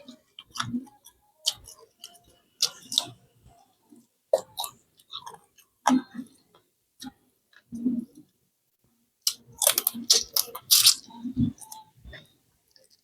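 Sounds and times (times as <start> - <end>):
person chewing and eating: 0.0 - 7.2, 9.2 - 13.0.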